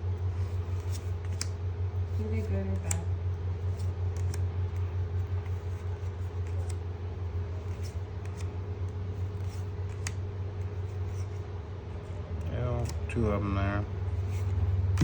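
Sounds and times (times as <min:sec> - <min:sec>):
low machine hum: 0:00.0 - 0:15.0
trading cards clicking and rustling: 0:00.2 - 0:15.0.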